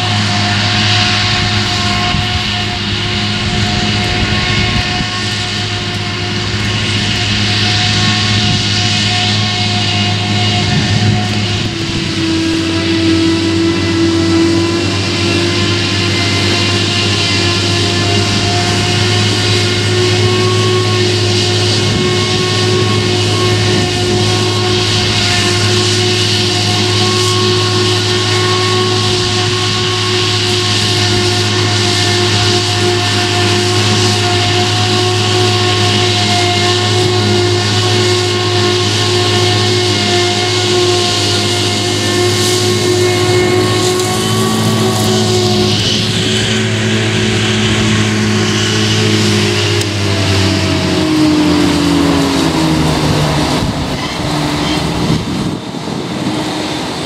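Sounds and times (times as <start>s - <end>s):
forage harvester engine droning: 0.0s - 57.0s
whining tones: 0.0s - 57.0s.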